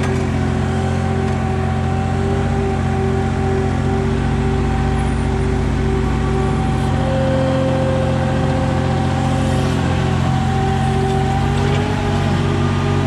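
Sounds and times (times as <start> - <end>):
forklift engine running: 0.0 - 13.0.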